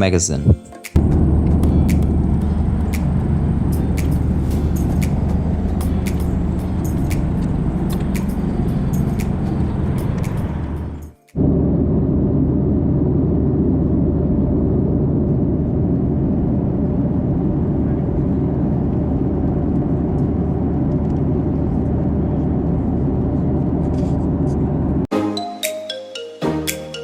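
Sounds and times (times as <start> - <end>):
airplane cabin engine drone: 1.0 - 25.1.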